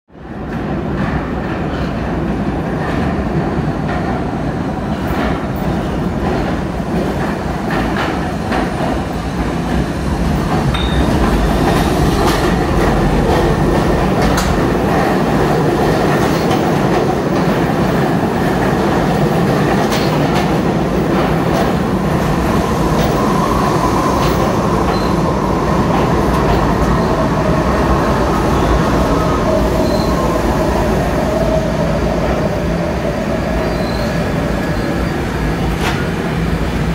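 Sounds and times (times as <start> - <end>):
train wheels rumbling: 0.2 - 36.9.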